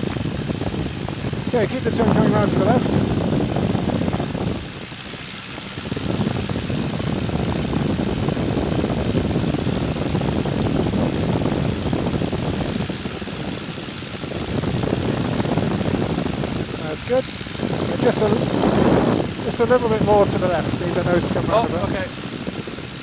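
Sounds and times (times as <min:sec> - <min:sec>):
biplane engine and propeller: 0:00.0 - 0:23.0
wind rushing: 0:00.0 - 0:23.0.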